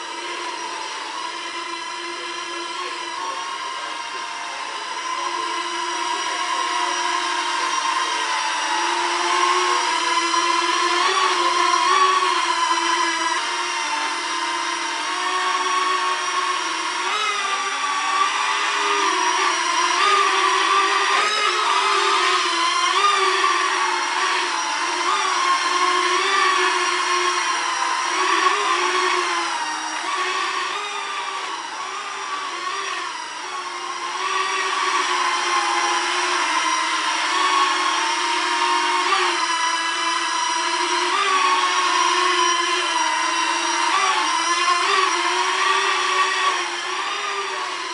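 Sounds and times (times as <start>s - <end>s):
toy drone buzzing whine: 0.0s - 47.9s.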